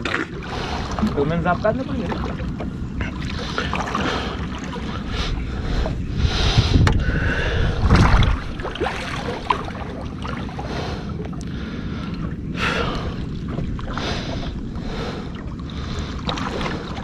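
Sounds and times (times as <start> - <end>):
water around boat: 0.0 - 17.0
wind: 0.0 - 17.0.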